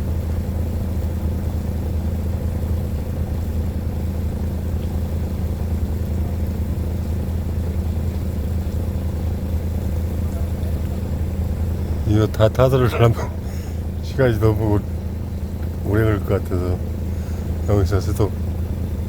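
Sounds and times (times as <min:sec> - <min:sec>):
engine droning steadily: 0:00.0 - 0:19.0.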